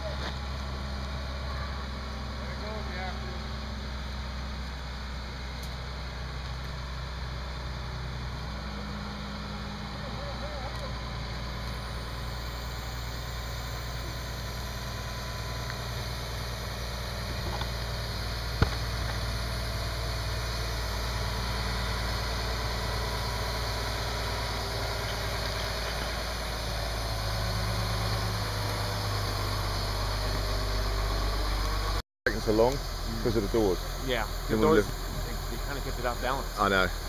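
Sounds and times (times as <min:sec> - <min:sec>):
crane diesel engine running: 0:00.0 - 0:37.0.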